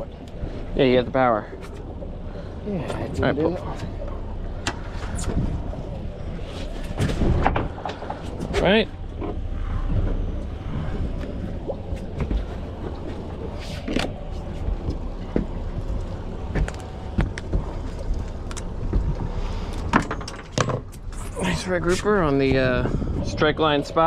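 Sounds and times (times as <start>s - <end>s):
wind and water rumble: 0.0s - 24.0s.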